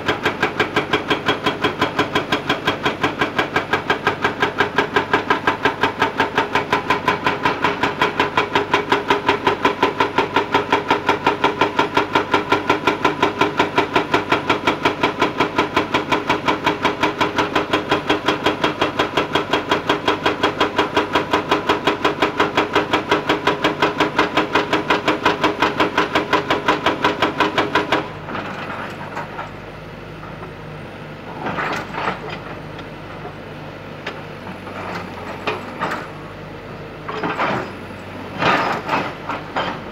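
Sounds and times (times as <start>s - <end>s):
hydraulic breaker hammering rock: 0.0s - 29.6s, 31.3s - 33.3s, 37.1s - 39.9s
excavator engine running: 0.0s - 39.9s.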